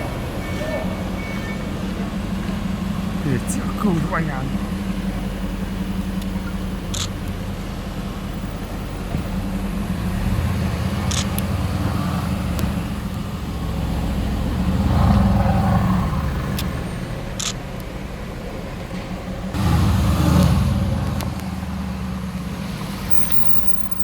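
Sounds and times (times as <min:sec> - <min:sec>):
supercar engines rumbling: 0:00.0 - 0:24.0.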